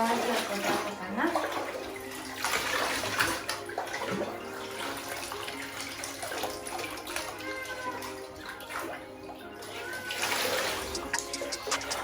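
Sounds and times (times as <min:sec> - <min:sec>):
water sloshing in bathtub: 0:00.0 - 0:12.0.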